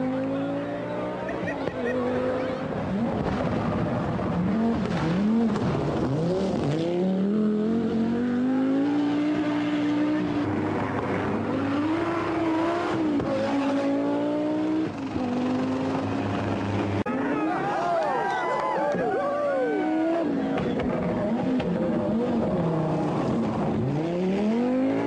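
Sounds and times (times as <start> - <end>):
rally car engine revving: 0.0 - 17.4, 19.6 - 25.0.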